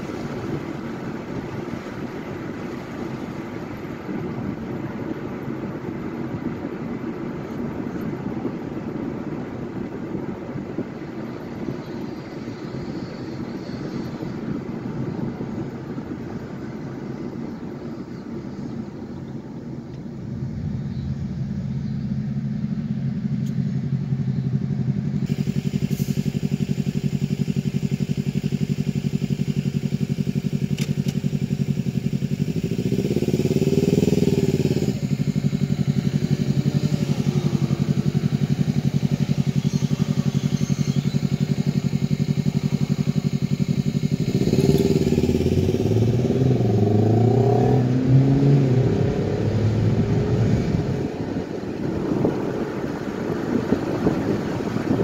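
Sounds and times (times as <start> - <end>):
low engine hum: 0.0 - 55.0
road and tyre noise: 0.0 - 55.0.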